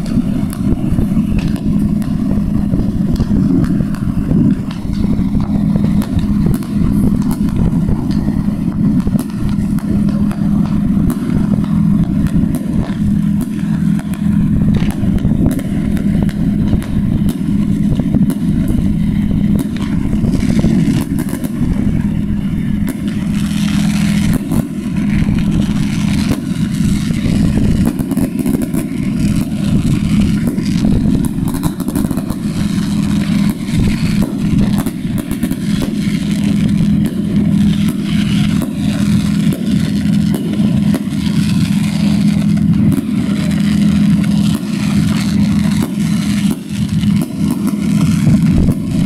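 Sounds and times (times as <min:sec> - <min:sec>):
fireworks bangs and crackles: 0:00.0 - 0:49.0
steady low hum: 0:00.0 - 0:49.0.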